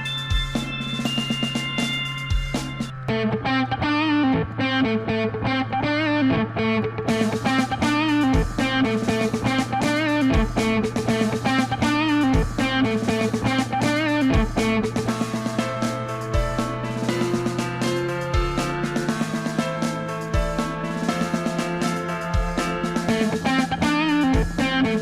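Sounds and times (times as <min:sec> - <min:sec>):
electric guitar music with beat: 0:00.0 - 0:25.0.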